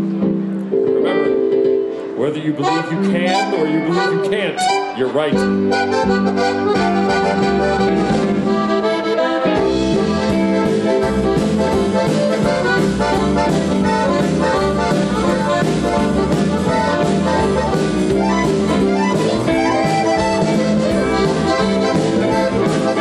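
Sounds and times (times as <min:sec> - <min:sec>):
live band with steady beat: 0:00.0 - 0:23.0
piano accordions playing: 0:00.0 - 0:23.0.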